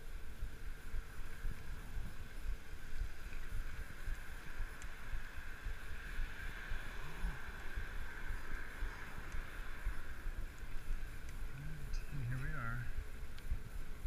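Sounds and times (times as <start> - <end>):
steady riding hiss: 0.0 - 14.0
wind buffeting microphone: 0.0 - 14.0.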